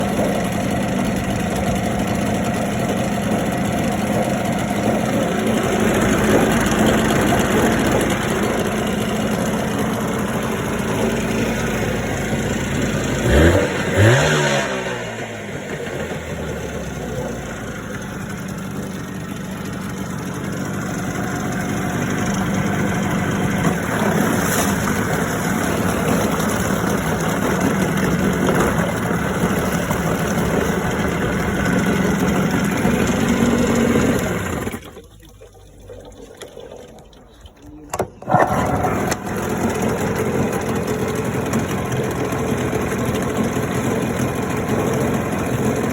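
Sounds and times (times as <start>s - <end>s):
outboard motor revving: 0.0s - 45.9s.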